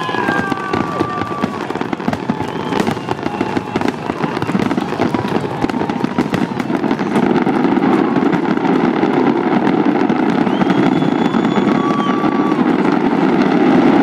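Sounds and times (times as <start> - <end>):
fireworks crackling pops: 0.0 - 14.0.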